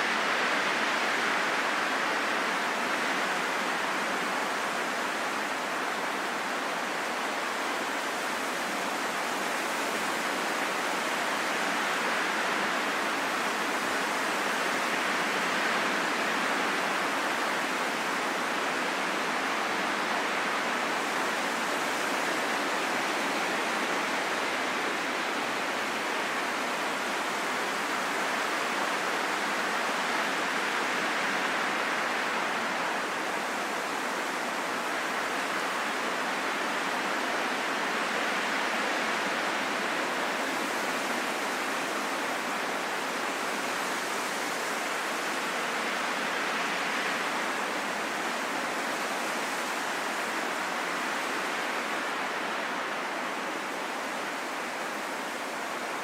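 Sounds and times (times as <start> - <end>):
rushing wind: 0.0 - 56.0.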